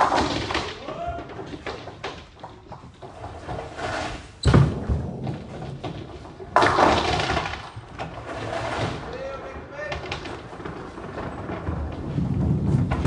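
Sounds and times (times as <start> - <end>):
bowling ball thud: 0.0 - 2.9, 4.4 - 9.1, 10.0 - 13.0.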